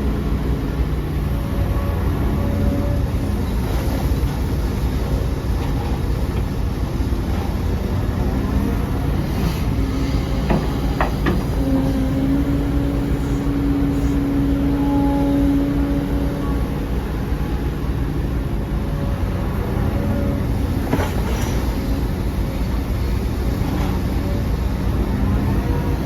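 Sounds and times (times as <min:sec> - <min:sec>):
diesel machinery rumbling: 0:00.0 - 0:26.0
steady machine whine: 0:00.0 - 0:26.0.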